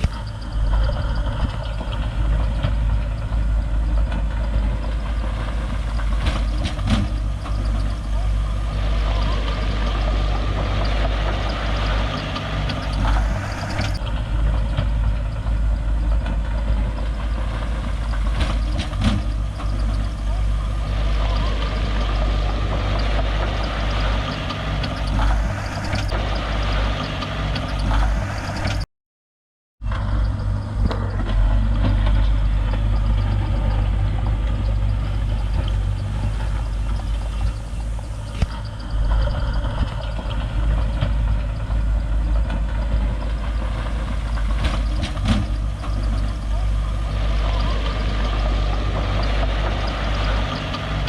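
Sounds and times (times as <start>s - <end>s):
diesel engine rumbling with clatter: 0.0s - 28.9s, 29.8s - 51.0s.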